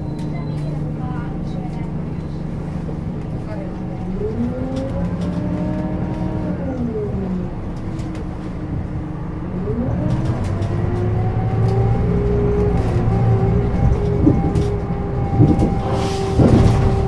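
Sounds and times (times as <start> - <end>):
bus engine and gearbox whine: 0.0 - 17.0.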